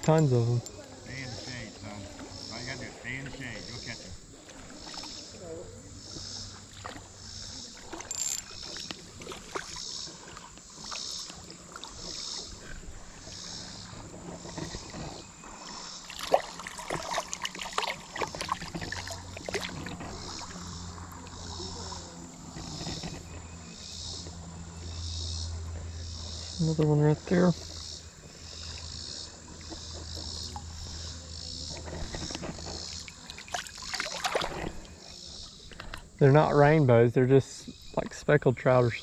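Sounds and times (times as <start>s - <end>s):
creek water running: 0.0s - 39.0s
insect chirping: 0.0s - 39.0s.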